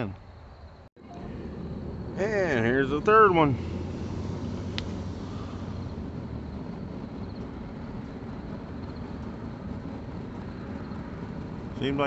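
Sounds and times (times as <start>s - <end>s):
propane burner hissing: 1.0s - 12.0s.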